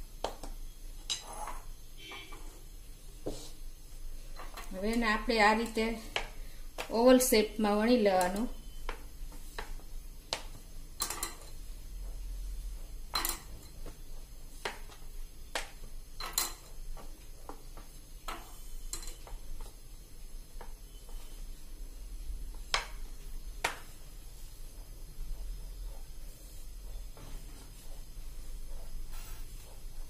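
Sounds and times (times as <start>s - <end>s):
rolling pin rolling dough: 0.0s - 30.0s.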